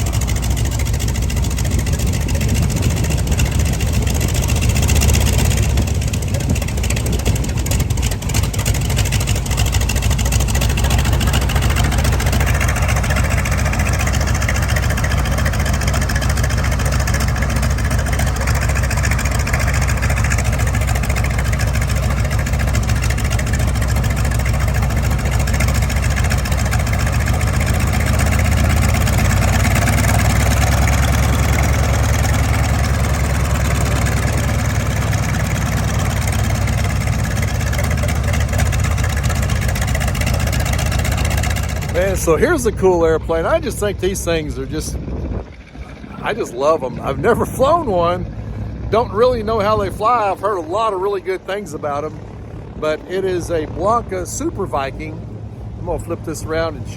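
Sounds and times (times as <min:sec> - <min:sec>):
propeller airplane engine idling: 0:00.0 - 0:56.9.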